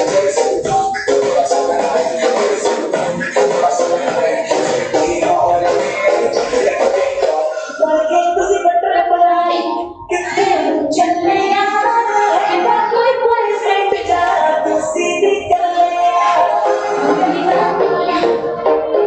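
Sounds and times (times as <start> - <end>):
dance music with sung vocal: 0.0 - 19.0.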